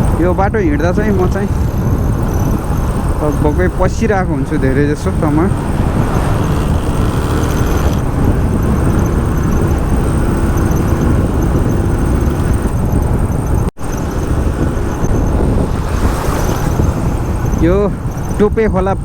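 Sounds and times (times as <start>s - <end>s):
motorcycle engine: 0.0s - 18.9s
road noise: 0.0s - 19.0s
wind rushing over microphone: 0.0s - 19.0s.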